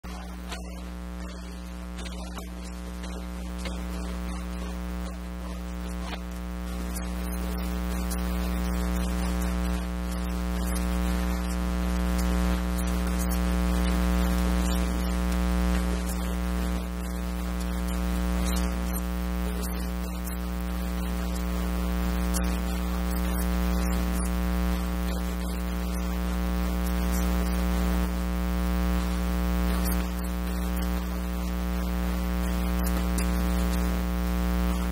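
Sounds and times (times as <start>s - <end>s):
electrical mains hum: 0.0s - 34.9s
faint crackles: 0.0s - 34.9s.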